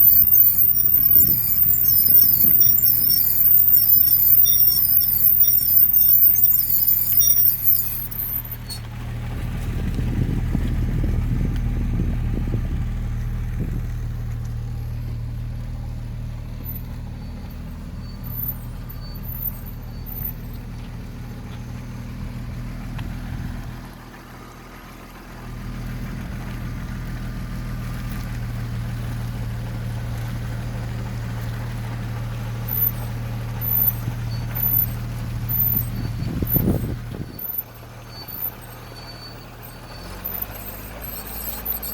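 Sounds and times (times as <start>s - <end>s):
car engine hum: 0.0s - 41.9s.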